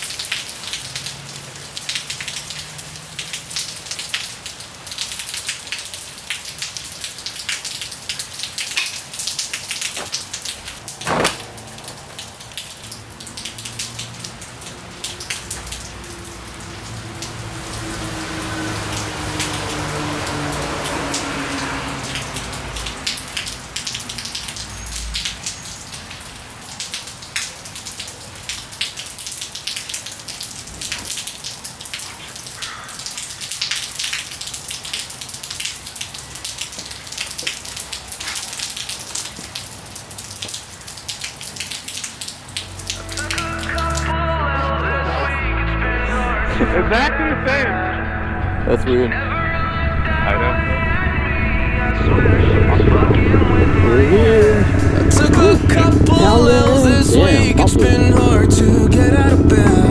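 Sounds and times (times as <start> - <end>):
rain pattering on hard surfaces: 0.0 - 44.2, 53.9 - 59.9.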